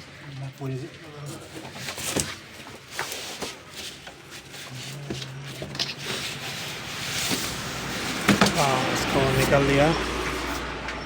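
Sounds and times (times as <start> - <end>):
keyboard scraping against foam packing: 1.2 - 10.7.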